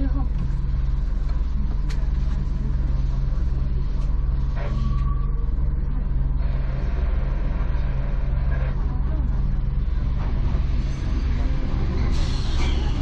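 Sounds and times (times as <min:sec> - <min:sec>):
train hum from inside: 0:00.0 - 0:13.0.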